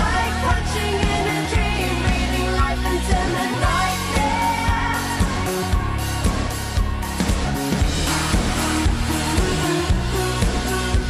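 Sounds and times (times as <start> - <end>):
pop music with drum beat: 0.0 - 11.0.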